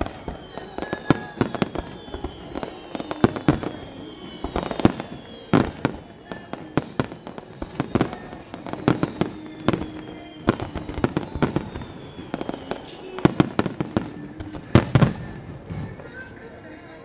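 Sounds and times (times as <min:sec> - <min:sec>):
fireworks bursting with echoes: 0:00.0 - 0:16.7.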